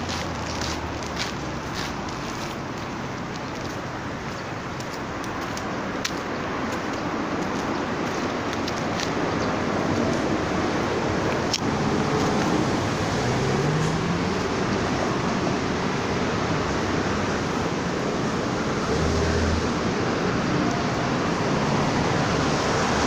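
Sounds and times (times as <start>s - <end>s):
road traffic: 0.0s - 23.0s
wind: 0.0s - 23.0s.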